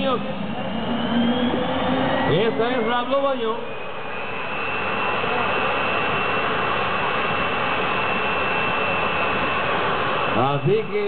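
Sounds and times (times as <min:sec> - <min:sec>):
jet turbine engine roar and whine: 0:00.0 - 0:11.0.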